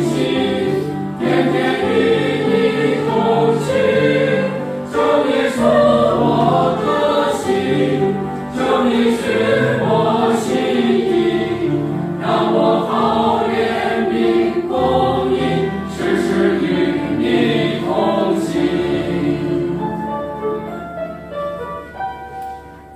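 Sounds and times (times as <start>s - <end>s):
choir singing in parts: 0.0s - 20.4s.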